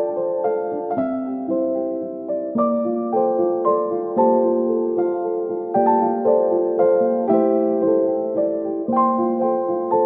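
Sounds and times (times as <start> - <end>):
piano-like keyboard music: 0.0 - 10.0.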